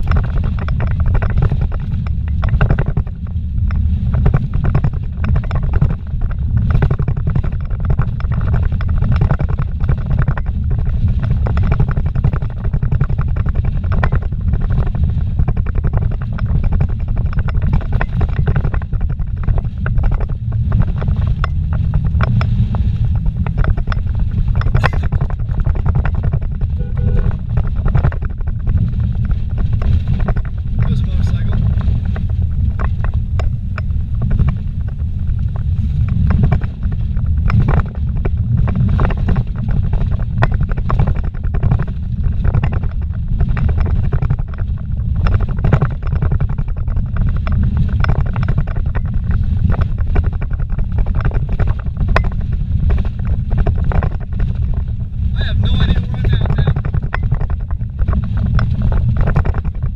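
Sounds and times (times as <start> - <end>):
knocks and rattles from bumps: 0.0 - 59.9
low rumble of tyres: 0.0 - 59.9.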